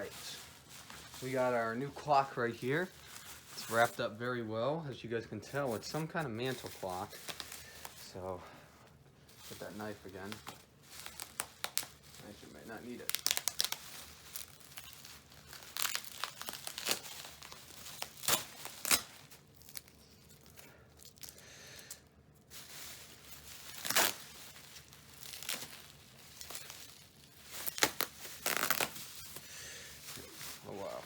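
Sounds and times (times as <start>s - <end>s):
packing wrap tearing and crinkling: 0.0s - 4.2s, 5.5s - 8.3s, 9.3s - 31.0s.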